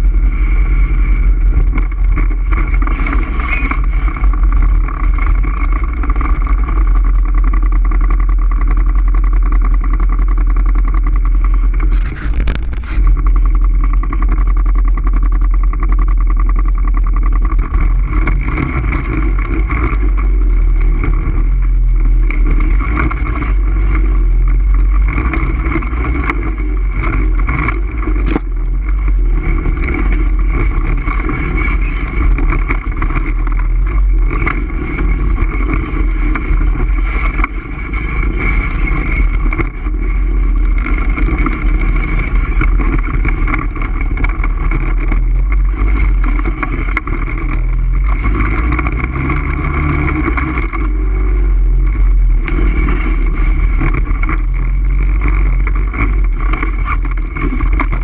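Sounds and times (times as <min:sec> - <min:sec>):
atv engine rumbling: 0:00.0 - 0:58.0.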